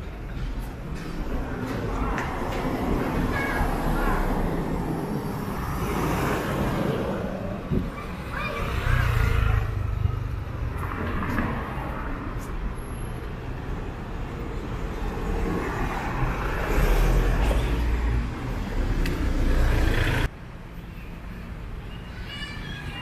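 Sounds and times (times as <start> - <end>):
cars passing on street: 0.0 - 23.0.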